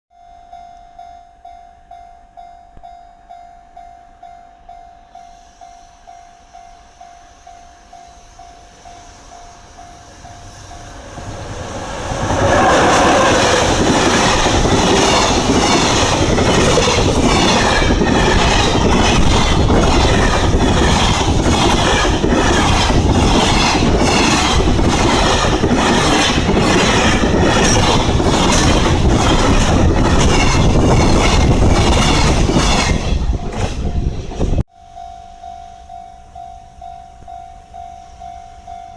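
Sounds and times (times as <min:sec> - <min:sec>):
freight train passing: 0:03.3 - 0:34.6.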